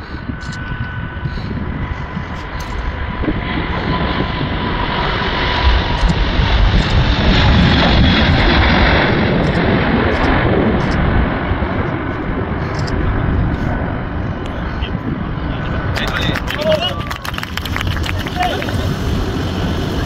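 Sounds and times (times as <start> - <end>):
jet engines at takeoff: 0.0 - 20.0
steady jet whine: 0.0 - 20.0.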